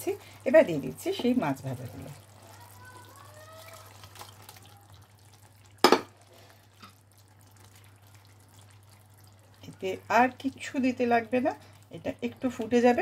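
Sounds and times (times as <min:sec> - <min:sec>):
gravy bubbling and dripping: 0:00.0 - 0:13.0.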